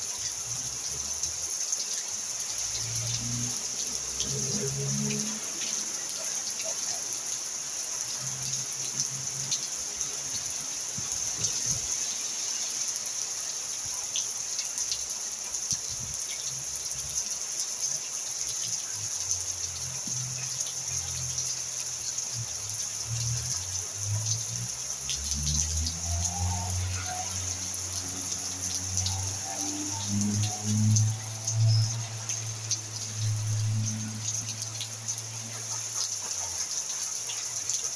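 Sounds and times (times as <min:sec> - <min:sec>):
rain on roof and ground: 0:00.0 - 0:37.9.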